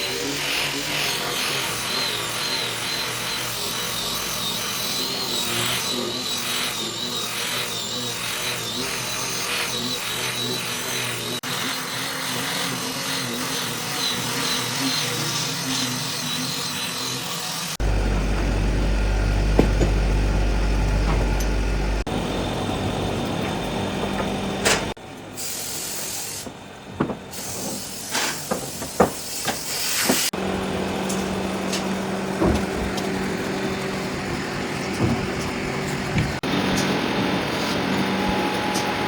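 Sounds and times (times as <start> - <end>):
power tools humming: 0.0 - 25.0, 30.3 - 39.0.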